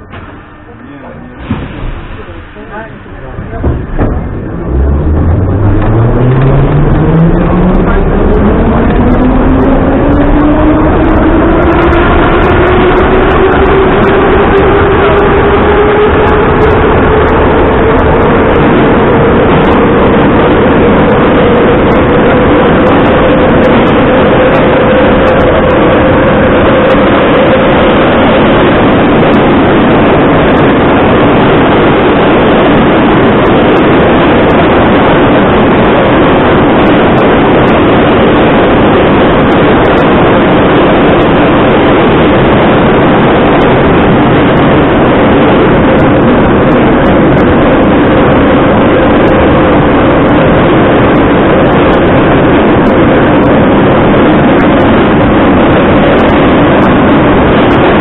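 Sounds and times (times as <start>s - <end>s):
faint hum: 0.0s - 58.0s
train wheel noise in tunnel: 0.0s - 58.0s.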